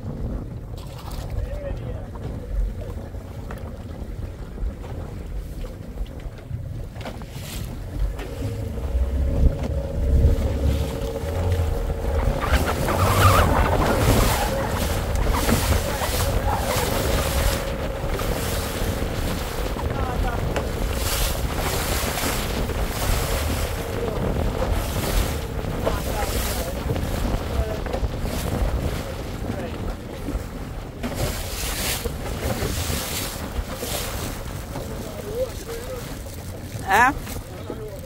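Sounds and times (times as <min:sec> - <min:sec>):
water splashing along hull: 0:00.0 - 0:38.0
wind buffeting microphone: 0:00.0 - 0:38.0
boat motor drone: 0:05.9 - 0:38.0.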